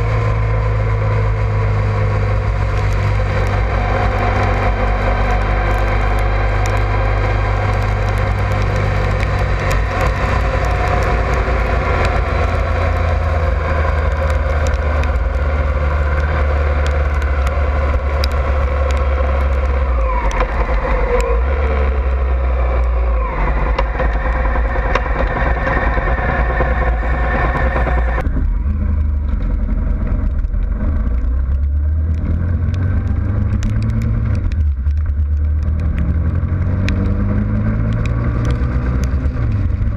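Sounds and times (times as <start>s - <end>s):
motorcycle engine running steadily: 0.0s - 39.9s
road and wind noise: 0.0s - 39.9s.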